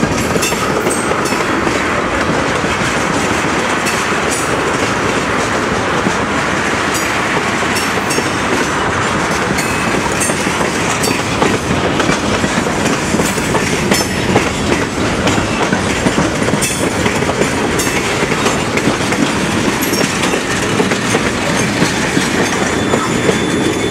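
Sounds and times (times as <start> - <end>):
train wheels on rails: 0.0 - 23.9
wheels clacking over rail joints: 0.0 - 23.9.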